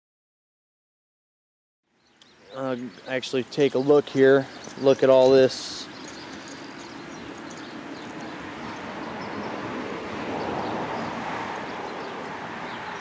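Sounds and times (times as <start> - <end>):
vehicle passing on road: 2.3 - 13.0.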